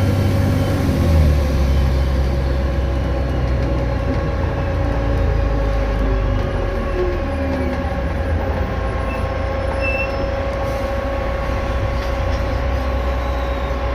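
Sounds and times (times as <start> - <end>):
bus engine rumble: 0.0 - 13.9.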